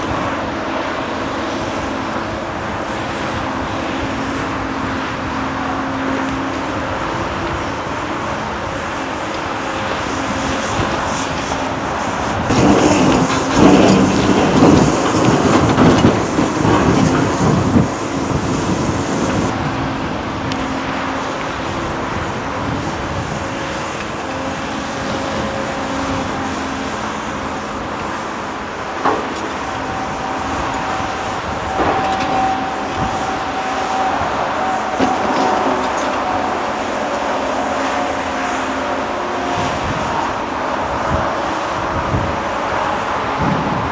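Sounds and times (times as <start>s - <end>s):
excavator diesel engine under load: 0.0s - 43.9s.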